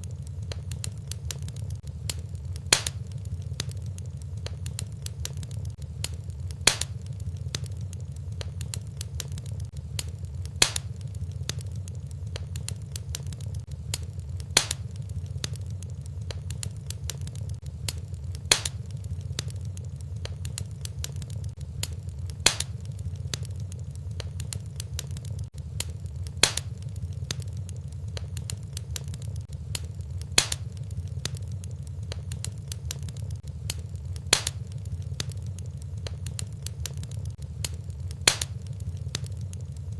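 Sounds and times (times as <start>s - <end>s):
fire popping loudly: 0.0s - 39.9s
fireplace fire crackling: 0.0s - 39.9s.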